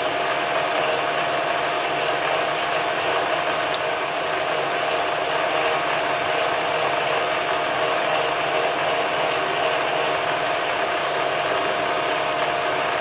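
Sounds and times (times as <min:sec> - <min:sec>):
drill cutting through steel: 0:00.0 - 0:13.0.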